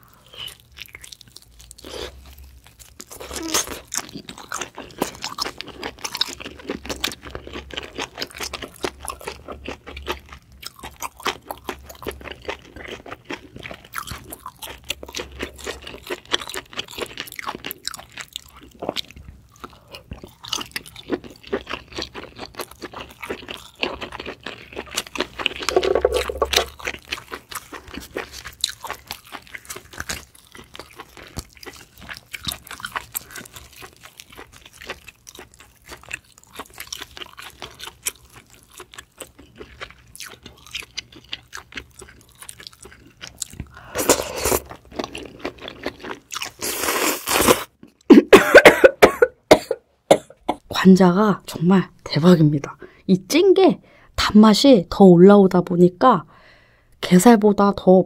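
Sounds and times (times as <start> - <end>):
wet chewing and lip-smacking: 0.2 - 48.1.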